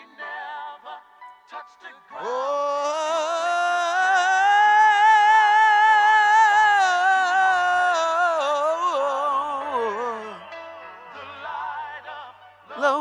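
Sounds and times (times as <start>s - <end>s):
man singing with vibrato: 2.1s - 13.0s.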